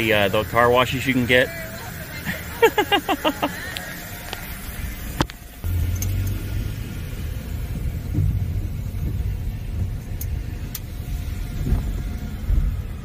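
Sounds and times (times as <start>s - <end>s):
car rolling rumble: 0.0s - 13.0s.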